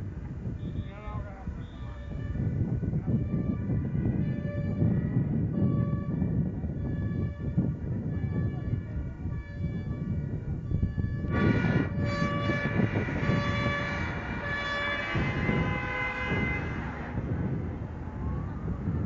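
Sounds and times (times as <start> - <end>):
engine and traffic rumble: 0.0 - 19.0
fire engine two-tone siren: 0.6 - 19.0.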